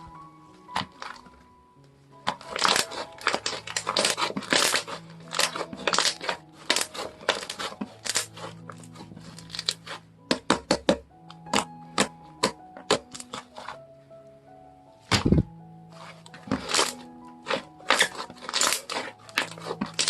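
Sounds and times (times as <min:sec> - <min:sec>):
slime crackling and popping: 0:00.7 - 0:01.4, 0:02.2 - 0:13.8, 0:15.0 - 0:20.0.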